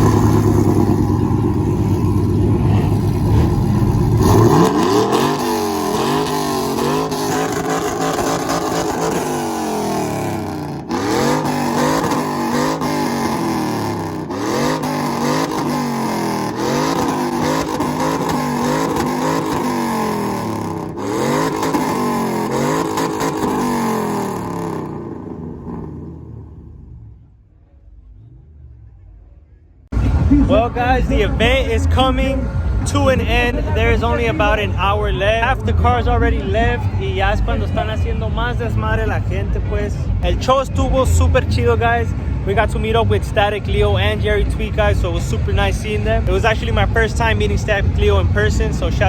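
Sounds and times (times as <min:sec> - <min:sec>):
heavy engine rumble: 0:00.0 - 0:49.0
truck engine revving: 0:00.0 - 0:49.0.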